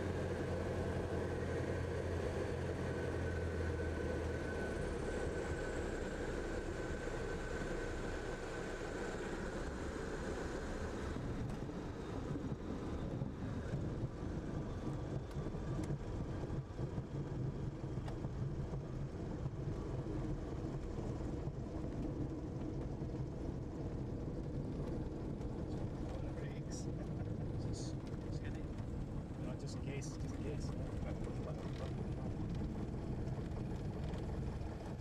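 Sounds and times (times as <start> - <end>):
aircraft engine rumble: 0.0 - 35.0
high engine whine: 0.0 - 35.0.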